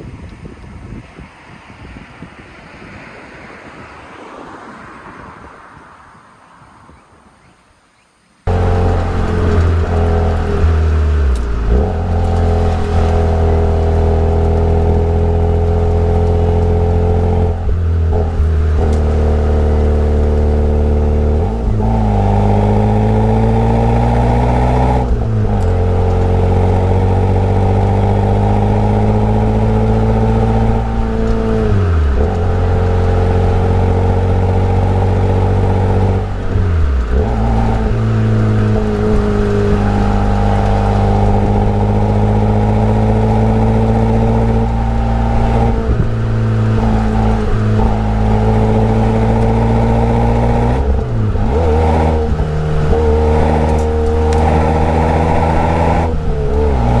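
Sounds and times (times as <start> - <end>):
car engine and exhaust under load: 8.4 - 57.0.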